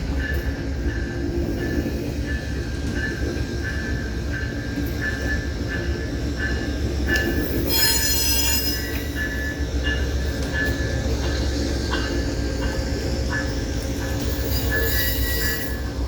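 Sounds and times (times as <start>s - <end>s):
diesel train rumble: 0.0s - 16.0s
locomotive bell ringing: 0.1s - 16.0s
wheels squealing on rails: 0.2s - 16.0s.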